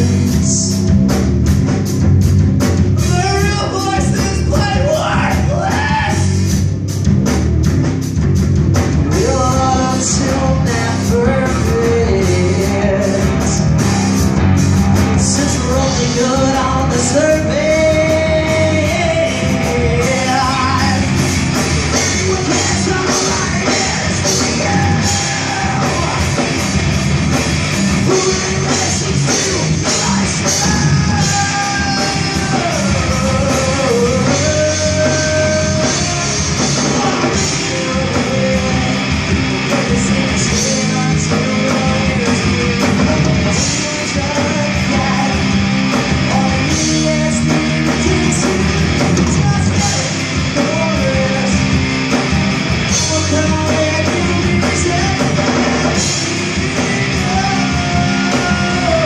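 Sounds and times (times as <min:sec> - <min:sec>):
man singing: 0:00.0 - 0:01.2, 0:02.9 - 0:06.5, 0:09.1 - 0:14.3, 0:15.0 - 0:26.6, 0:27.8 - 0:59.0
bass guitar: 0:00.0 - 0:59.0
distorted electric guitars: 0:00.0 - 0:59.0
drum kit: 0:00.0 - 0:59.0.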